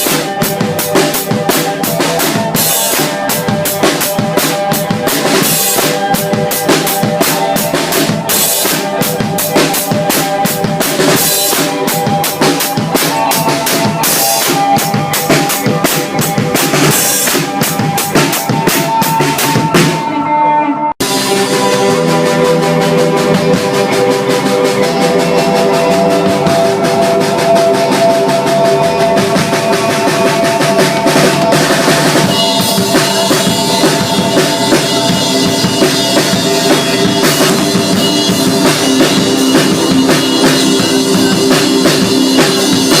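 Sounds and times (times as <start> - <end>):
drum kit steady beat: 0.0 - 20.2, 21.0 - 43.0
band music: 0.0 - 43.0
sustained pitched instruments: 0.0 - 43.0.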